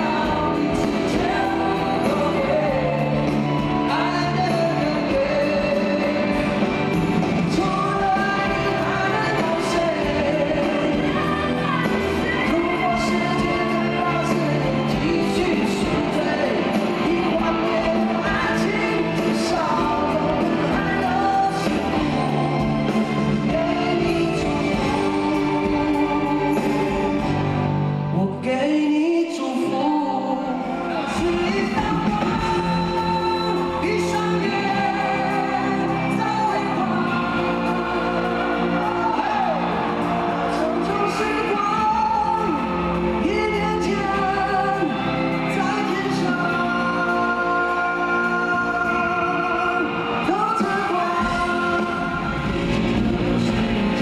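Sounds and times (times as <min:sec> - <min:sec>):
men singing: 0:00.0 - 0:27.4, 0:28.2 - 0:54.0
pop-rock band playing: 0:00.0 - 0:54.0.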